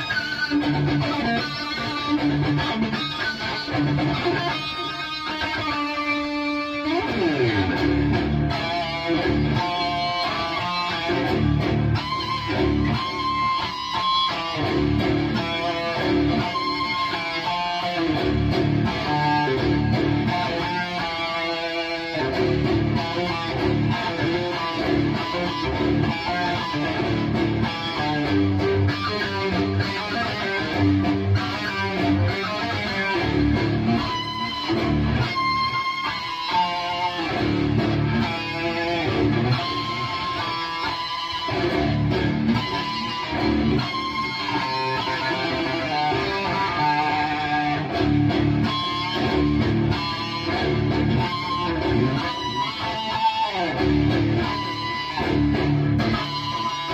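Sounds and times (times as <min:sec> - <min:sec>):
distorted electric guitar riffing: 0:00.0 - 0:56.9.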